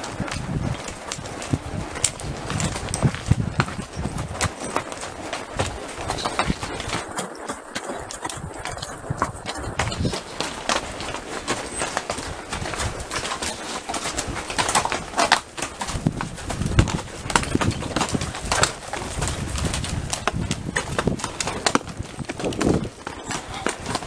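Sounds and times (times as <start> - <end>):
horse hooves clopping on rock: 0.0 - 24.0.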